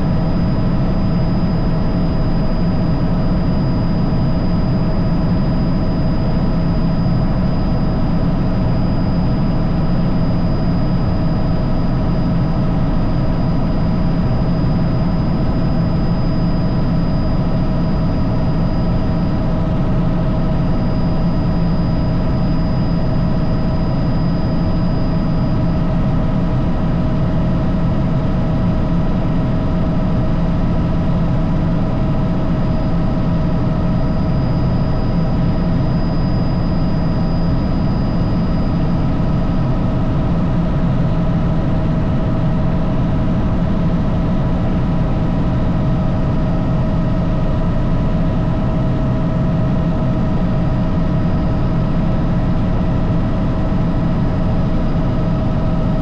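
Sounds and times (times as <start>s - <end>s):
helicopter drone and whine: 0.0s - 56.0s.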